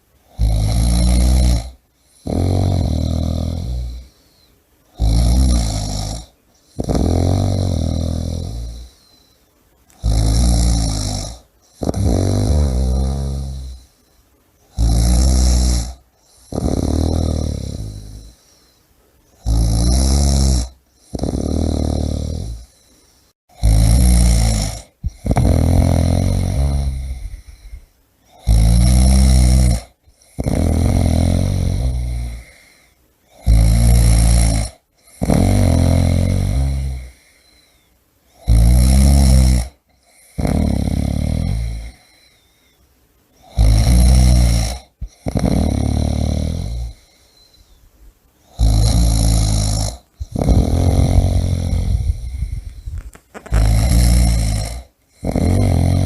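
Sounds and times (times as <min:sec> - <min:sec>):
person snoring: 0:00.3 - 0:14.1, 0:14.7 - 0:18.8, 0:19.4 - 0:42.6, 0:43.4 - 0:47.8, 0:48.4 - 0:56.0.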